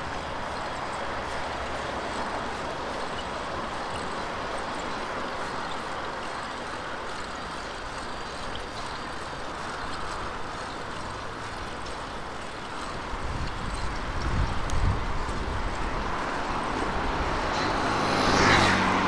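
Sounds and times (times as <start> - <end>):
bicycle tyres rushing: 0.0 - 19.0
wind buffeting microphone: 0.0 - 19.0.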